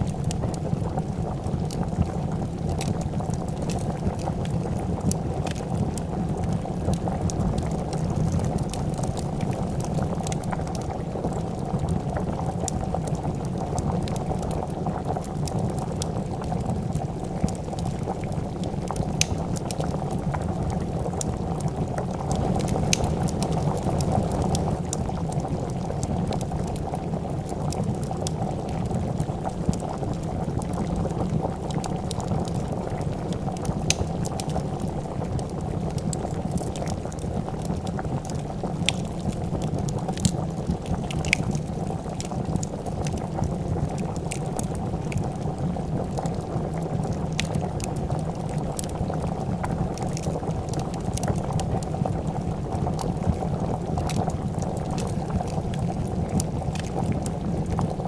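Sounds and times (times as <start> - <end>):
soup bubbling: 0.0 - 58.0
wood fire crackling: 0.0 - 58.0.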